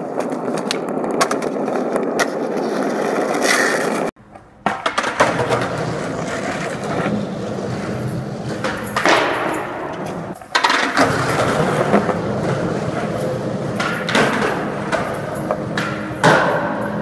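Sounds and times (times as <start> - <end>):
skateboard clacking on ground: 0.0 - 17.0
skateboard wheels rolling on concrete: 0.0 - 17.0.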